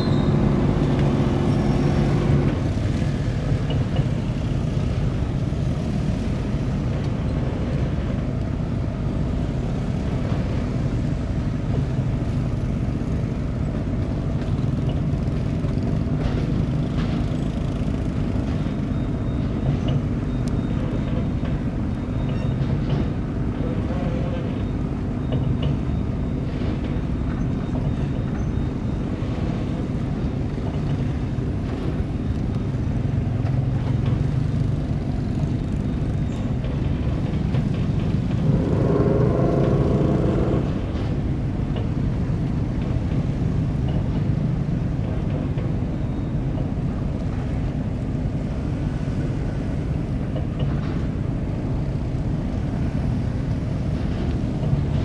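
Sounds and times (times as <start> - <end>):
boat engine rumble: 0.0 - 55.0.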